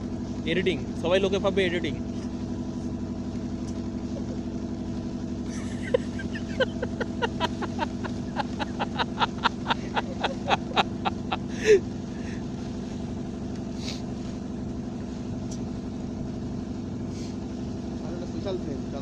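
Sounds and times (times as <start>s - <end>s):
steady engine hum: 0.0s - 19.0s.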